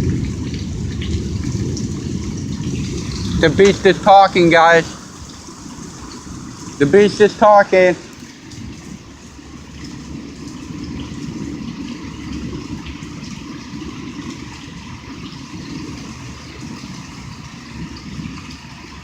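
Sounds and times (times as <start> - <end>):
rain and hail falling: 0.0 - 19.0
thunder rumbling: 0.0 - 19.0.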